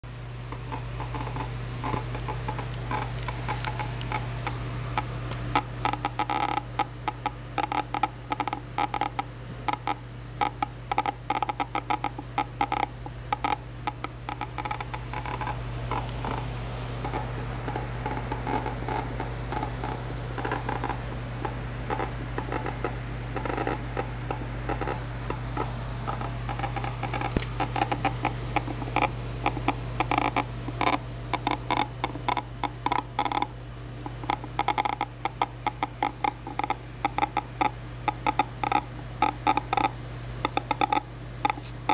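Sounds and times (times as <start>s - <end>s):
steady low hum: 0.0s - 41.9s
monitor crackling and ticking: 0.5s - 41.9s.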